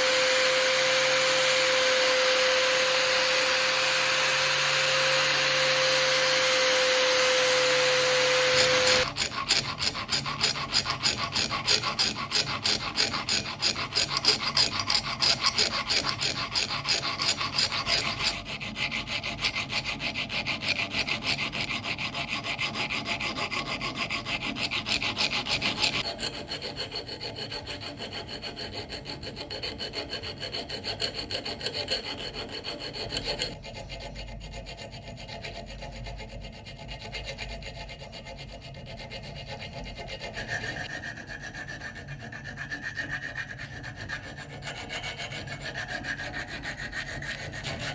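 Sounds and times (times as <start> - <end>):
file rubbing against knife: 0.0 - 47.9.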